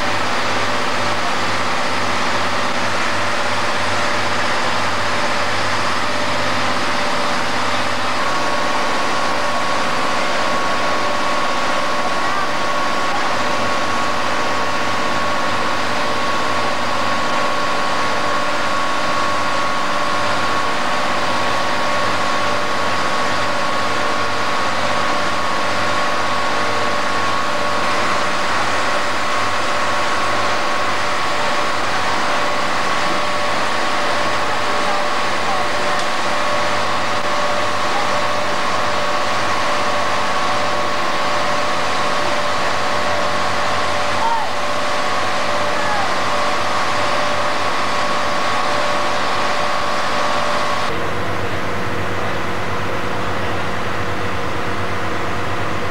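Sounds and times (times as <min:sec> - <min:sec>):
heavy machinery engine running: 0:00.0 - 0:55.9.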